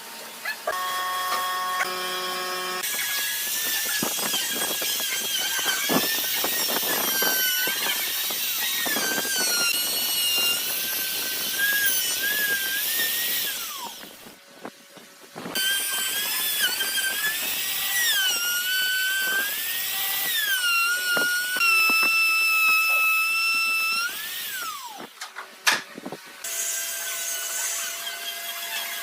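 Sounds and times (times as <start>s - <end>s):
power tool whining on wood: 0.0s - 25.2s, 26.4s - 29.0s.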